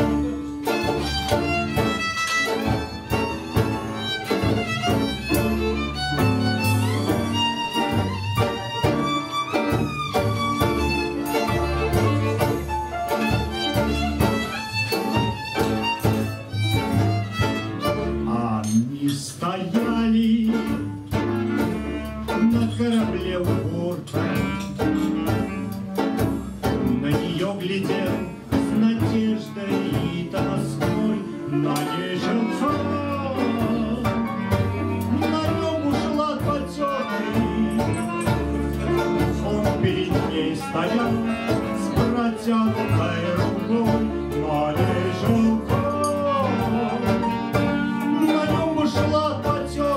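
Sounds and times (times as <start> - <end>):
clarinet: 0.0 - 18.6, 20.4 - 27.0, 29.8 - 49.9
double bass: 0.0 - 49.9
guitar: 0.0 - 49.9
violin: 0.0 - 49.9.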